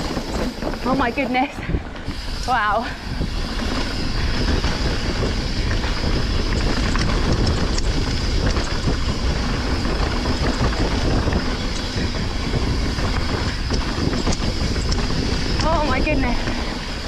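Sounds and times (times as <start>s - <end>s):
bike rattles and clicks: 0.0s - 17.0s
tyres rumbling on dirt: 0.0s - 17.0s
wind on microphone: 0.0s - 17.0s.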